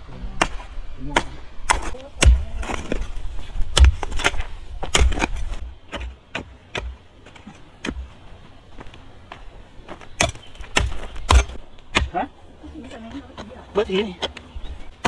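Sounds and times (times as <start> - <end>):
hoe chopping stony soil: 0.2 - 8.2, 9.9 - 15.0.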